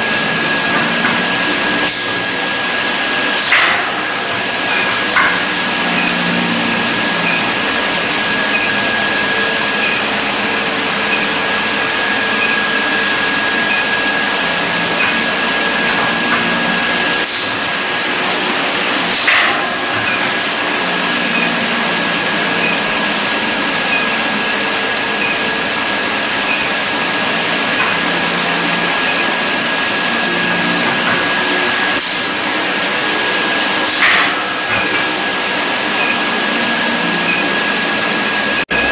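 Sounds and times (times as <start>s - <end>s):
high whine: 0.0s - 38.9s
machine noise: 0.0s - 38.9s.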